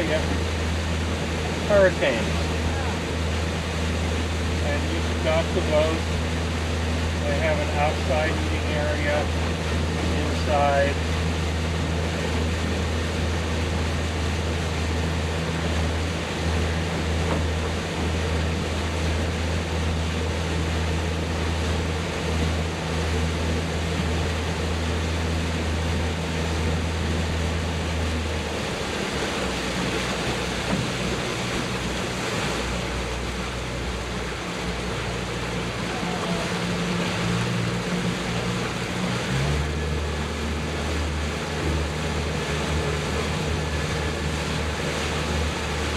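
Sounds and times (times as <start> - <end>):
motorboat engine running: 0.0 - 45.9
water and wind rushing: 0.0 - 45.9.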